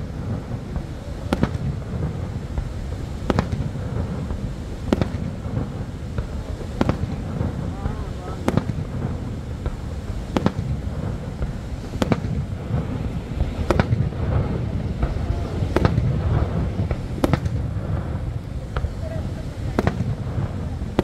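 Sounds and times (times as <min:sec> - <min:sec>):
fireworks bursting with sharp bangs: 0:00.0 - 0:21.0
low rumble: 0:00.0 - 0:21.0.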